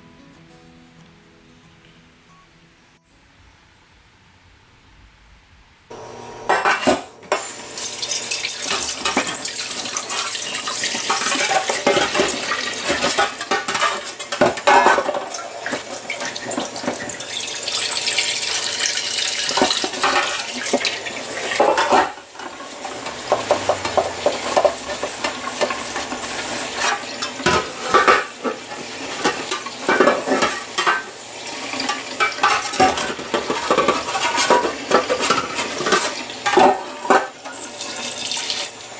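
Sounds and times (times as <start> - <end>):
wok clattering against sink: 6.5 - 37.9
sponge scrubbing wok: 6.5 - 38.7.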